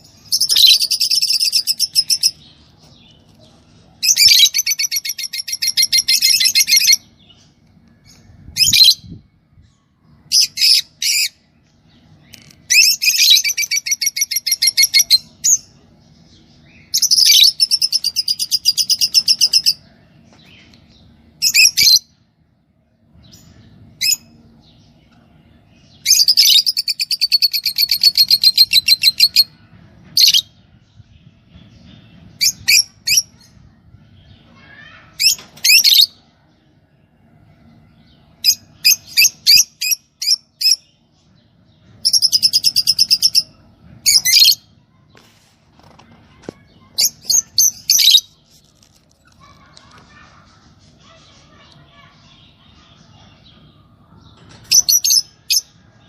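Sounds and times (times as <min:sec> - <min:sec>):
lovebirds chirping: 0:00.0 - 0:22.2, 0:23.0 - 0:45.4, 0:46.0 - 0:56.0.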